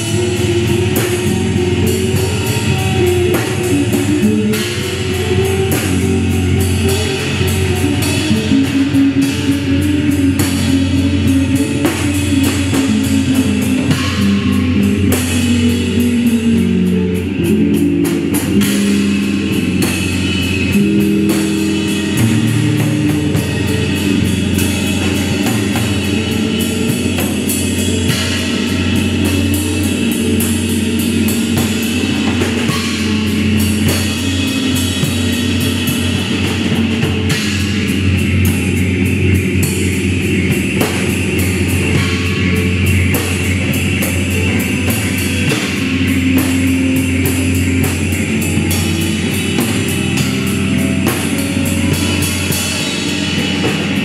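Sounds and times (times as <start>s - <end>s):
low bass drone: 0.0s - 54.0s
rapid drum and cymbal strokes: 0.0s - 54.0s
sustained guitar tones: 0.0s - 54.0s.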